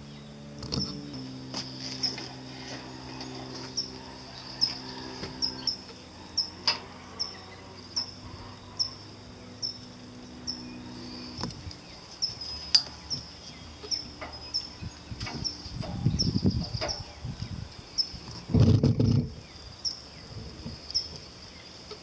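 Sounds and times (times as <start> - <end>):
cricket chirping: 0.0 - 22.0
faint low hum: 0.0 - 22.0.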